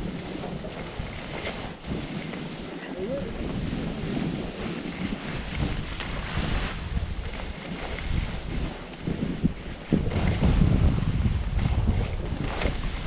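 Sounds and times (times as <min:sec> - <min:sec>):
skis scraping over snow: 0:00.0 - 0:13.0
wind rushing over microphone: 0:00.0 - 0:13.0.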